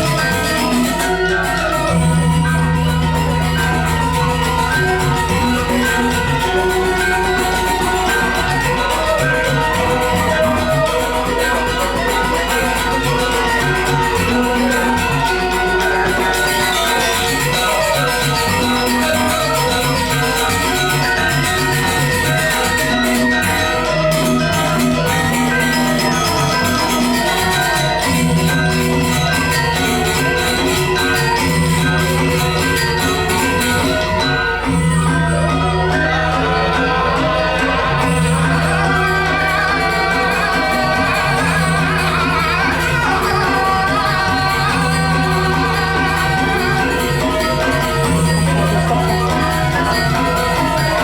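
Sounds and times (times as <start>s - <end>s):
metal-keyed percussion ringing: 0.0s - 51.0s.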